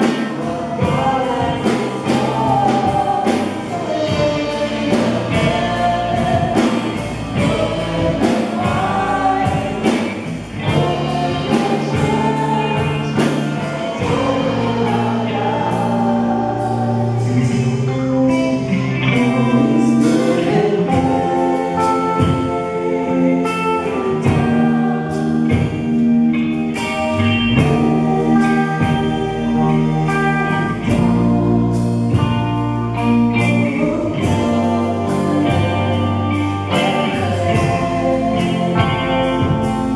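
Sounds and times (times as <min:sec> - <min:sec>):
steady drum beat: 0:00.0 - 0:17.9, 0:19.2 - 0:39.9
band playing: 0:00.0 - 0:39.9
sustained bass notes: 0:00.0 - 0:39.9
voices singing gospel song: 0:00.0 - 0:39.9.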